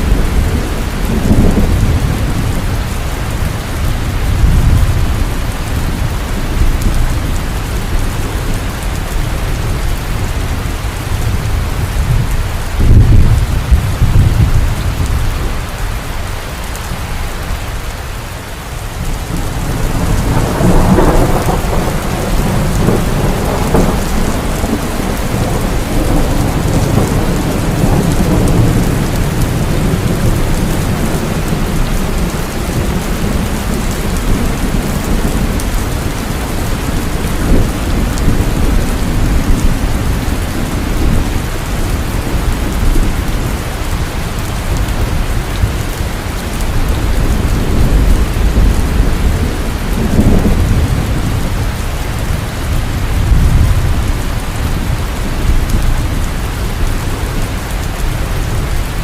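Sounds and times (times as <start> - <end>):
low rolling thunder: 0.0 - 17.9, 18.8 - 59.0
heavy rain falling: 0.0 - 59.0.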